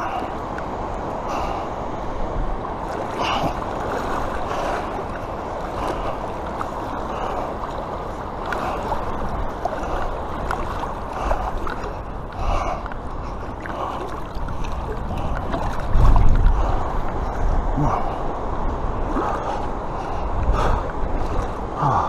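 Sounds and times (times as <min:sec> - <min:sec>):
flowing river water: 0:00.0 - 0:22.0.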